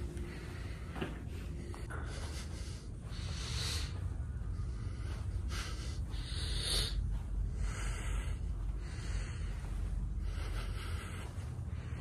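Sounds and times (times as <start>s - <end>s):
steady low rumble: 0.0s - 12.0s
hissing breaths: 0.1s - 12.0s.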